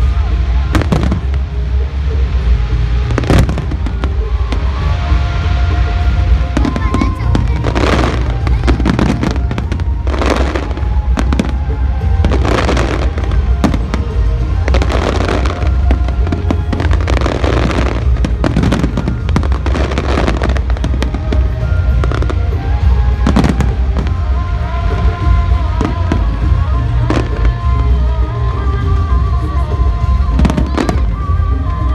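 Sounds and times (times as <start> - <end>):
fireworks bursting: 0.0 - 31.9
fireworks crackling: 0.0 - 31.9
low rumble: 0.0 - 31.9
music: 0.0 - 31.9.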